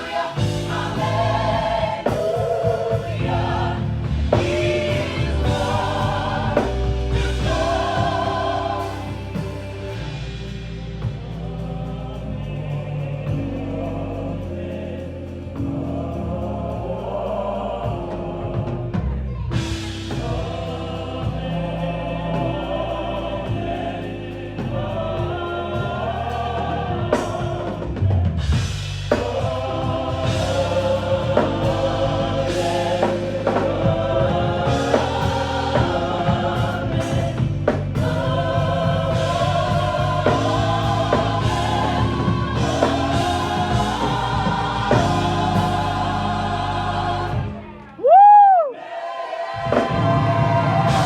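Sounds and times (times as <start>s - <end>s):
bass and drums: 0.0s - 51.0s
choir singing gospel music: 0.0s - 51.0s.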